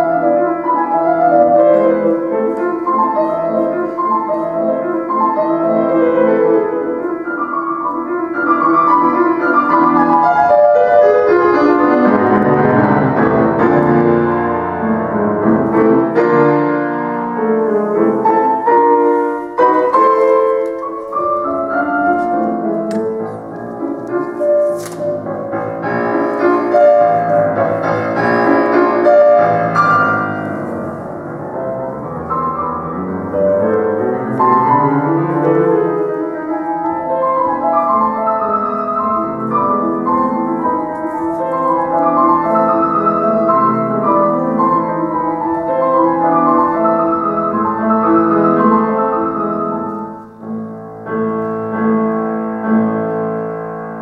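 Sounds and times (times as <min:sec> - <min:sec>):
solo classical piano: 0:00.0 - 0:54.0.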